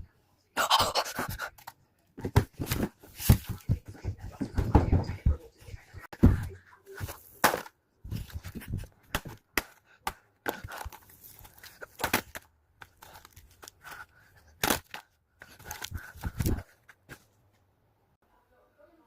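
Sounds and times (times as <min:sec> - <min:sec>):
objects being handled: 0:01.2 - 0:17.7.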